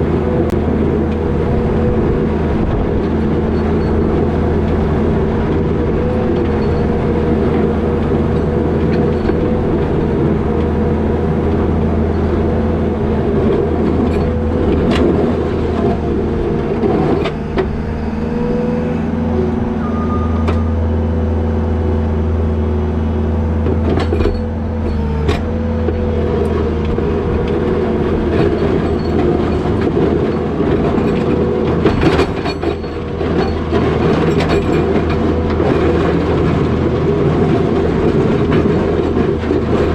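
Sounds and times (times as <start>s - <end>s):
diesel engine running under load: 0.0s - 39.9s
steady whine: 0.0s - 39.9s.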